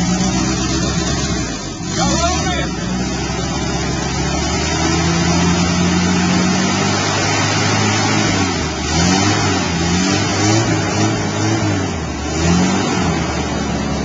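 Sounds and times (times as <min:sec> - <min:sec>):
car engine idling: 0:00.0 - 0:14.0
engine revving: 0:00.0 - 0:14.0.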